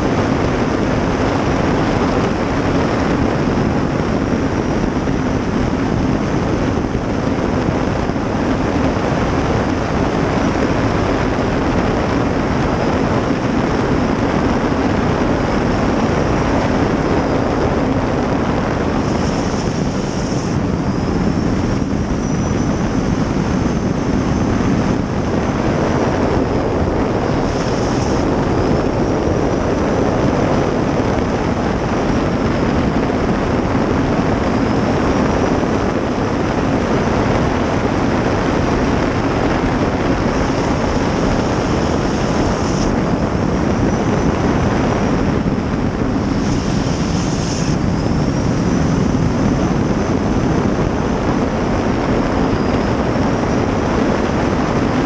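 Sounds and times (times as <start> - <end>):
faint high whine: 0.0 - 55.0
jet boat turbine and water rush: 0.0 - 55.0.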